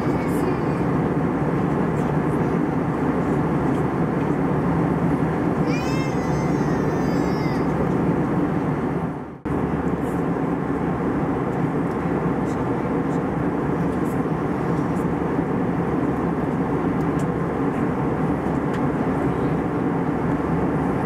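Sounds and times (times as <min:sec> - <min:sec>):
airplane cabin noise: 0:00.0 - 0:21.0.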